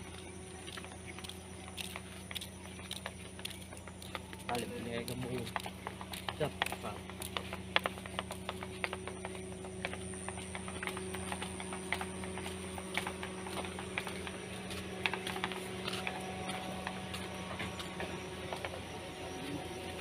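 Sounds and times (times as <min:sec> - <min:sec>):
footsteps on gravel: 0:00.0 - 0:20.0
steady low hum: 0:00.0 - 0:20.0.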